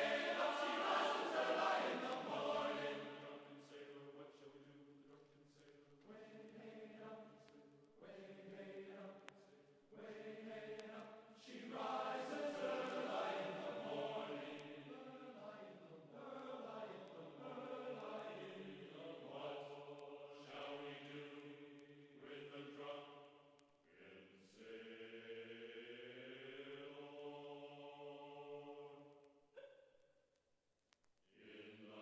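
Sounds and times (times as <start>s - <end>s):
chant-like voices in harmony: 0.0s - 29.7s, 31.3s - 32.0s.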